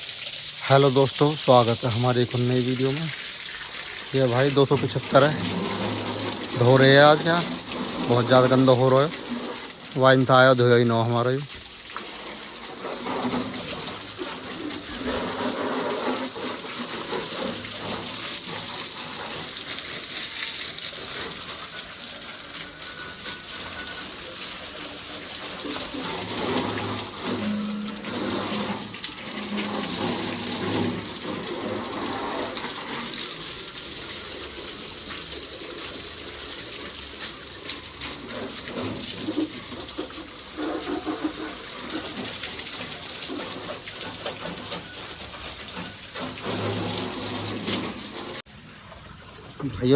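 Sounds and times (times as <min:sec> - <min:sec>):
water jet spraying: 0:00.0 - 0:48.5.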